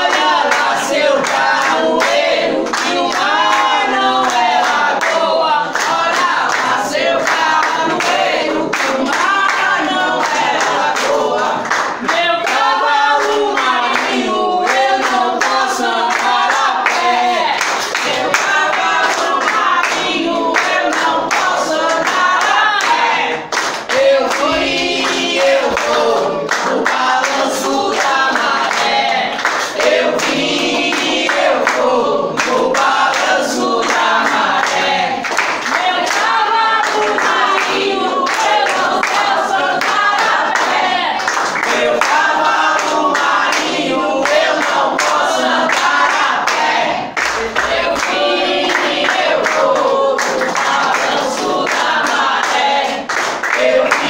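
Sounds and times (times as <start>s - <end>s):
group of voices singing: 0.0s - 54.0s
hand clapping: 0.0s - 54.0s.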